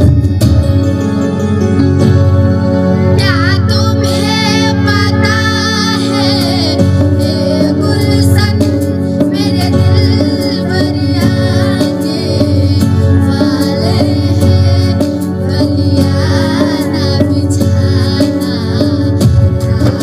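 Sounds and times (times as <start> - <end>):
electronic keyboard with steady beat: 0.0 - 20.0
woman singing: 3.2 - 20.0.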